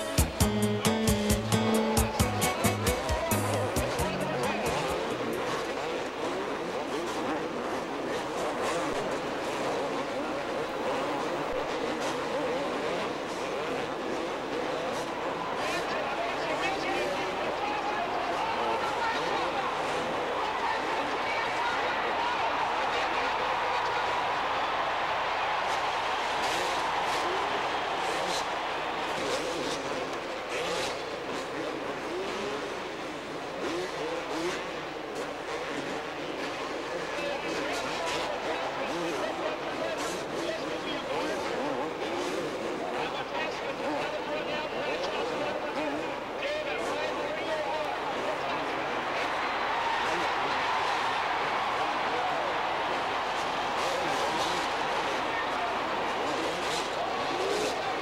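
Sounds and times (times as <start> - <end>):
background noise: 0.0 - 58.0
motocross bikes revving: 0.0 - 58.0.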